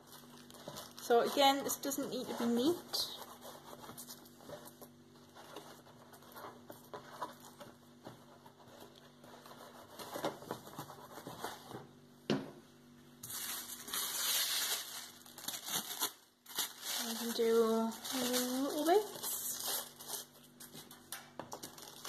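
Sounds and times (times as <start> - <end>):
tissue paper rustling and crinkling: 0.0 - 11.8, 13.2 - 22.0.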